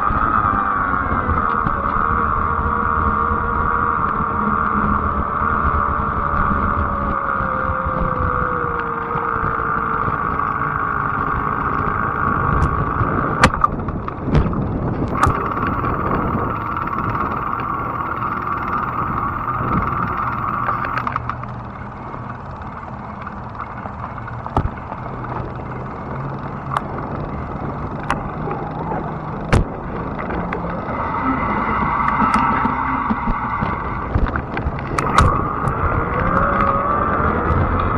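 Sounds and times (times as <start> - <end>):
electric bike motor whir: 0.0 - 37.9
low rumble: 0.0 - 37.9.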